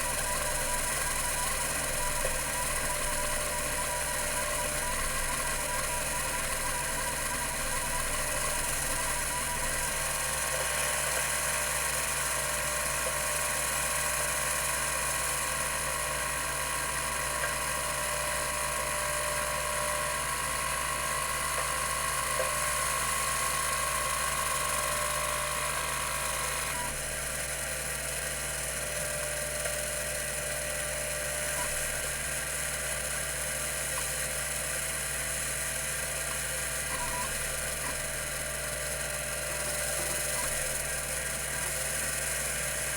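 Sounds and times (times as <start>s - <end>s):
hard drive whirring: 0.0s - 28.0s, 28.6s - 42.9s.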